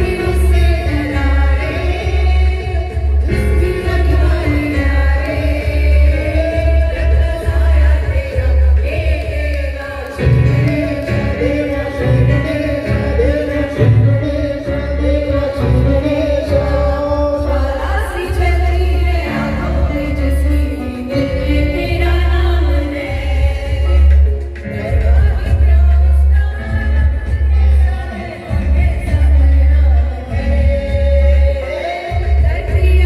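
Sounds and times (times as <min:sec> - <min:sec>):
amplified instrumental backing: 0:00.0 - 0:33.0
group singing into microphones: 0:00.0 - 0:33.0.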